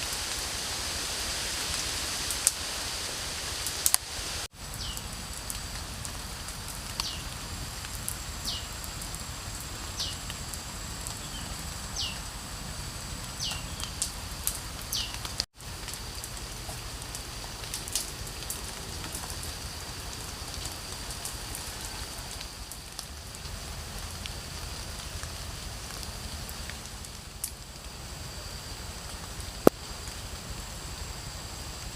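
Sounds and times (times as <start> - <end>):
rain hiss: 0.0 - 31.9.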